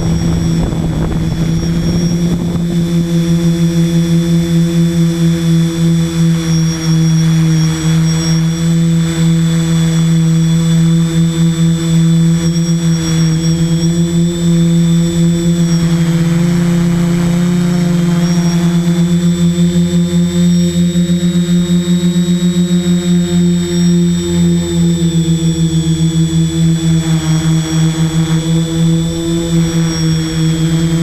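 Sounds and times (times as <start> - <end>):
drone motors humming: 0.0 - 31.0.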